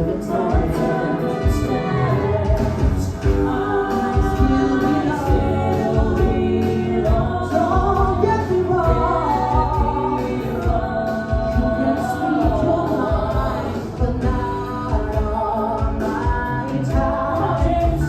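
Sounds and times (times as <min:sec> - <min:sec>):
live pop-rock band playing: 0:00.0 - 0:18.0
steady drum beat: 0:00.0 - 0:18.0
voices singing together: 0:00.0 - 0:18.0.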